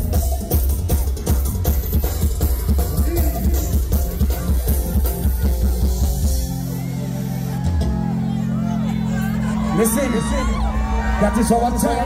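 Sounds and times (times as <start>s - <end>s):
calypso band playing: 0.0s - 12.0s.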